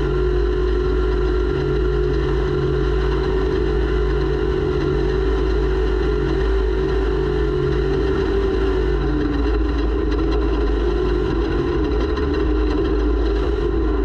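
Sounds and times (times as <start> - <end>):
snowmobile engine at high revs: 0.0 - 14.0.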